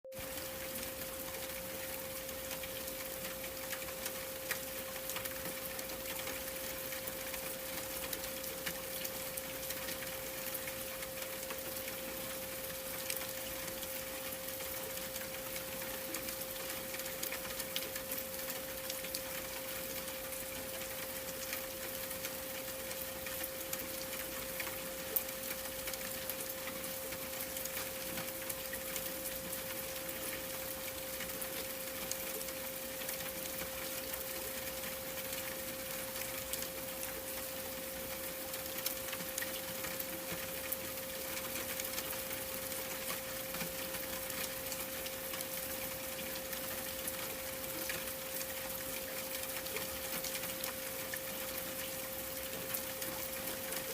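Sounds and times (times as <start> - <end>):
ticks of raindrops: 0.0 - 53.9
rain hiss: 0.2 - 53.9.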